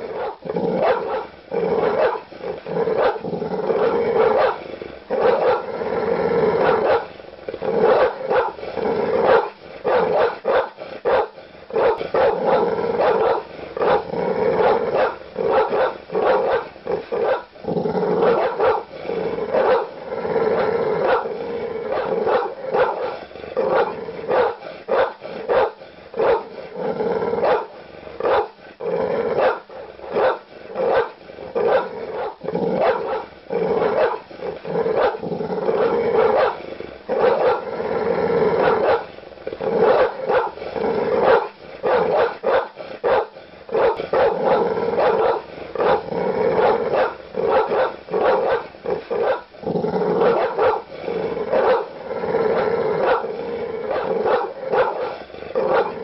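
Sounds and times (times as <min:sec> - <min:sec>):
large dog barking aggressively: 0:00.0 - 0:56.0.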